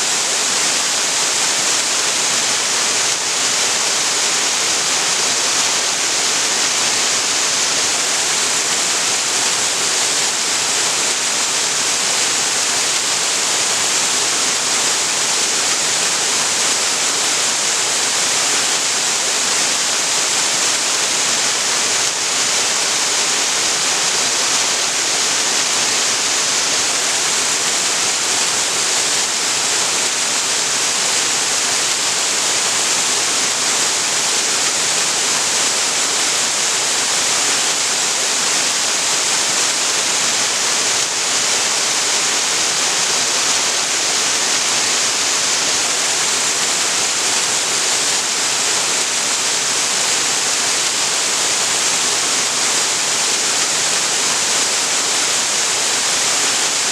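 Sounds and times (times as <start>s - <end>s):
waterfall pouring: 0.1s - 56.9s.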